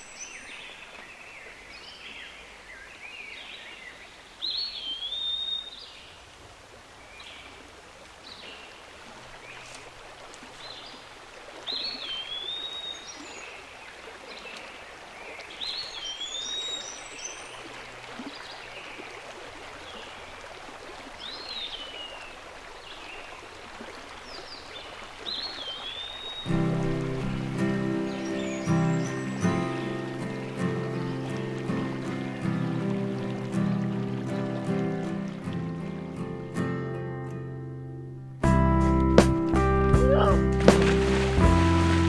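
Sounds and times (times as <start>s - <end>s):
running water: 0.0s - 36.6s, 38.9s - 42.0s.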